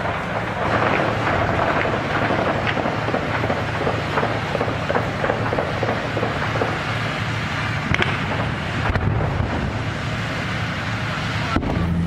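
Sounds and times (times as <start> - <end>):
sharp cracks: 0.0 - 11.8
truck engines rumbling: 0.0 - 12.0.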